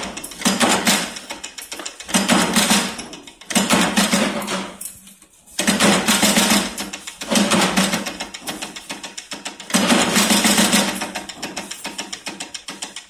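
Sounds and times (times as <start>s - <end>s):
bench press metallic rattle: 0.0s - 13.0s.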